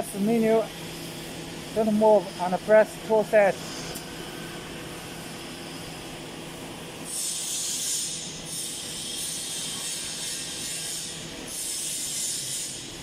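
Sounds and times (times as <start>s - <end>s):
cnc router running: 0.0s - 13.0s.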